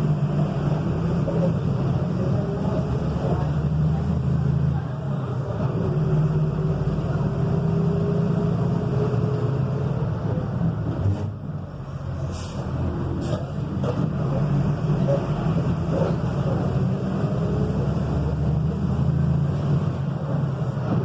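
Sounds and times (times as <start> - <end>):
diesel truck engine droning: 0.0 - 21.0.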